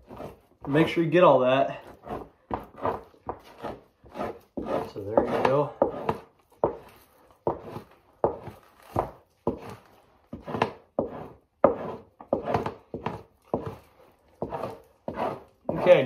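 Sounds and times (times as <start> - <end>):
knife scraping fat off hide: 0.0 - 1.1, 1.7 - 16.0.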